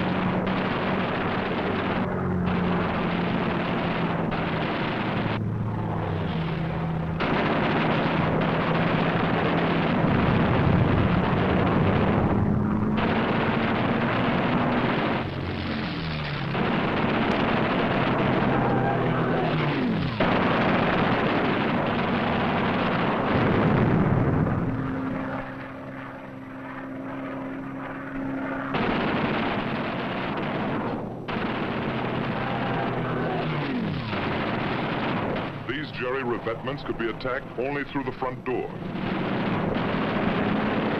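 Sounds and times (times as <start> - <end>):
propeller aircraft engines: 0.0 - 40.9.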